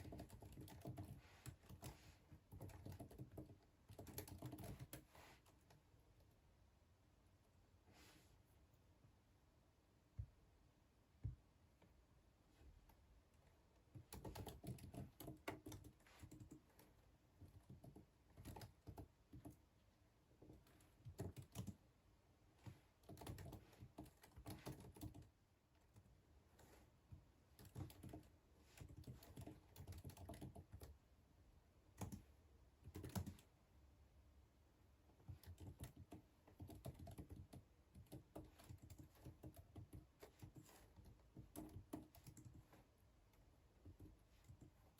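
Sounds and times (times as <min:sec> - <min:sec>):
quiet keyboard typing: 0:00.0 - 0:06.4, 0:12.8 - 0:31.1, 0:31.9 - 0:33.6, 0:35.0 - 0:44.9.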